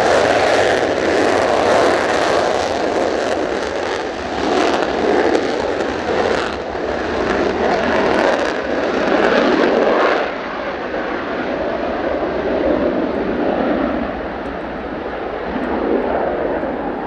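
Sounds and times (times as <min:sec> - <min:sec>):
jet roar with crackling: 0:00.0 - 0:17.0.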